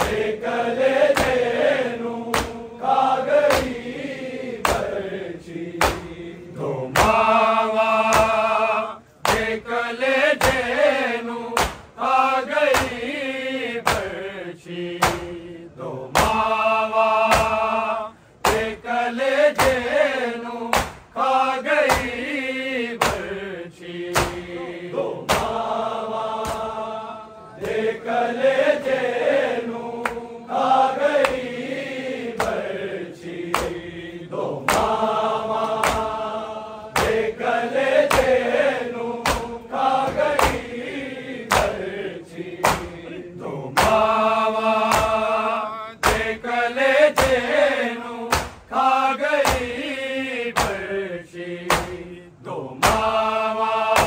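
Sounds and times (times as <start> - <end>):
men chanting mourning elegy: 0.0 - 54.0.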